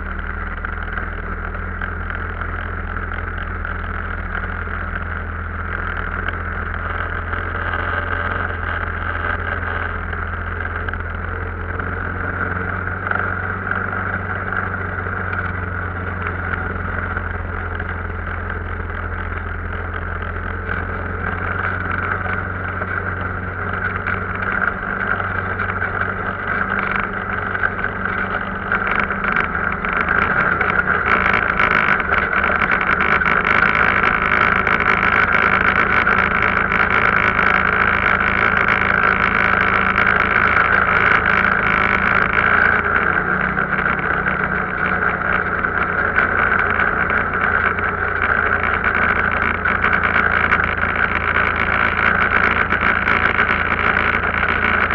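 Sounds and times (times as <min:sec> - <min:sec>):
off-road vehicle engine running: 0:00.0 - 0:54.9.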